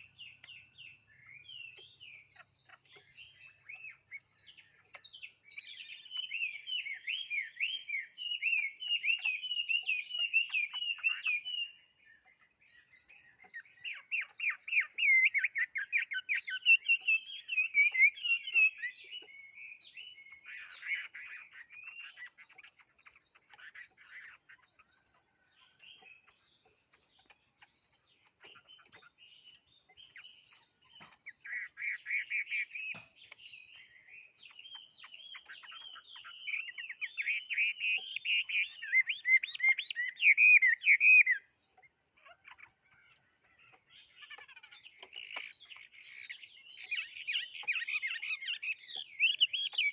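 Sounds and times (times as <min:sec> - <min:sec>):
songbird warbling: 0:00.0 - 0:49.9.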